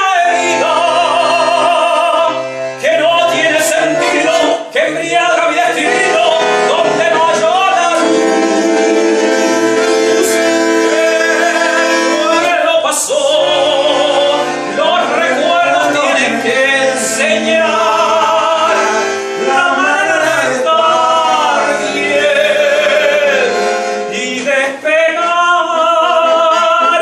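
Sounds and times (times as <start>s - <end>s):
instrumental accompaniment: 0.0s - 27.0s.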